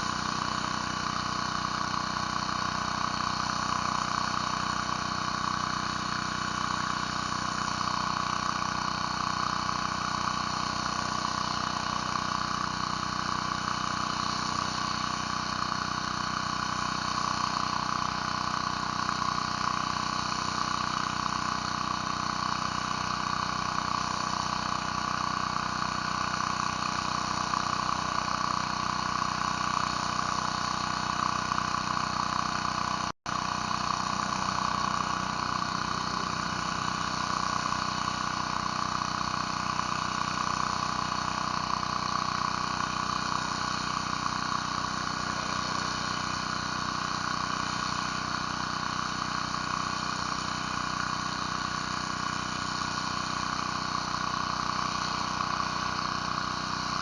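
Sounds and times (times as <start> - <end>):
pressure washer engine running: 0.0 - 57.0
surface cleaner on concrete: 0.0 - 57.0.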